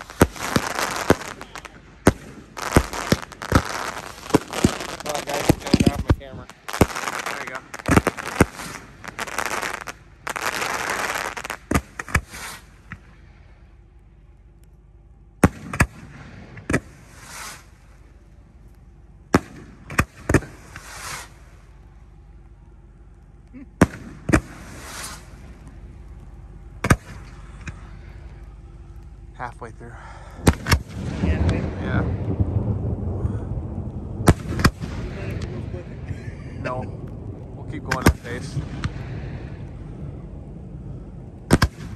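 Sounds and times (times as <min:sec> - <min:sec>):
fireworks bangs: 0:00.0 - 0:13.4, 0:15.4 - 0:18.5, 0:19.1 - 0:22.4, 0:23.3 - 0:29.8, 0:30.4 - 0:41.9
fireworks crackling: 0:00.0 - 0:41.9.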